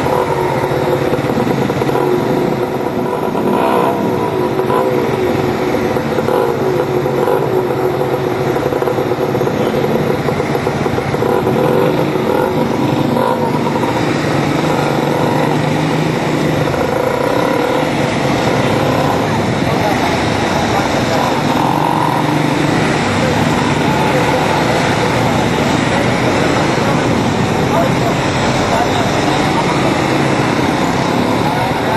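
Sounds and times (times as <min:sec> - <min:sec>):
motorcycle engine revving: 0:00.0 - 0:31.9
wind and road noise: 0:00.0 - 0:31.9.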